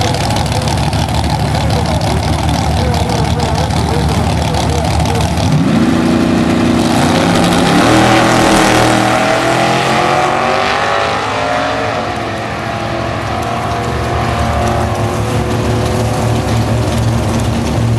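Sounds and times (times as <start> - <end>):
racing car engines revving: 0.0 - 17.9
steady engine note: 0.0 - 17.9.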